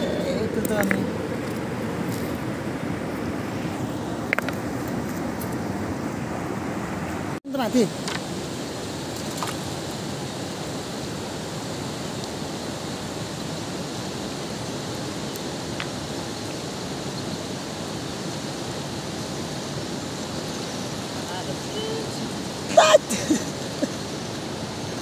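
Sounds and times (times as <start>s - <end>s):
fast-flowing river rushing: 0.0s - 25.0s.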